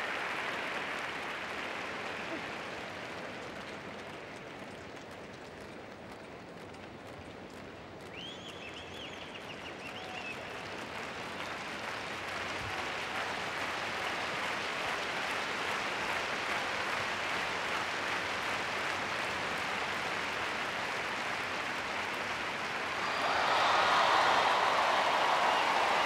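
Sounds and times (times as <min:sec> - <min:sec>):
crowd applauding and murmuring: 0:00.0 - 0:26.0.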